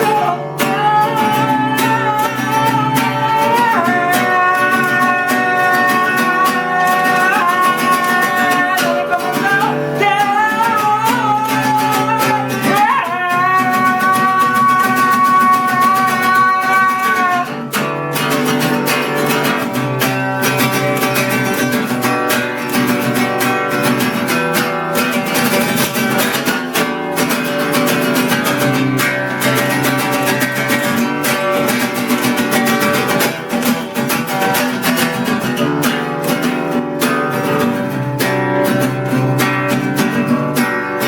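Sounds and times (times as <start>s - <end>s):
strummed acoustic guitar: 0.0s - 41.0s.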